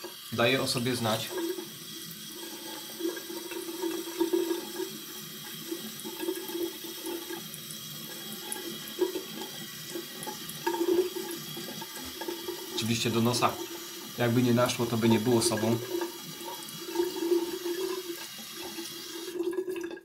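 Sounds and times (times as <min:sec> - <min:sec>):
tap water running into sink: 0:00.0 - 0:20.0.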